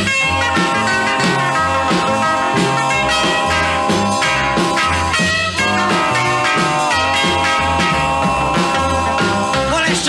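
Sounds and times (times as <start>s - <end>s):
upbeat instrumental band music: 0.0s - 10.0s.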